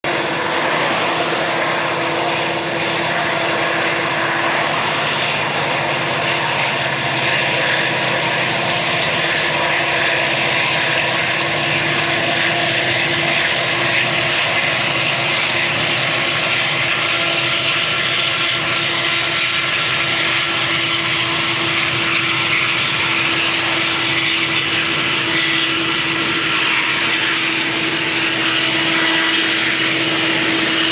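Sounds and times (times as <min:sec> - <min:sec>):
diesel locomotive drone: 0:00.0 - 0:30.9
train rumbling past: 0:00.0 - 0:30.9.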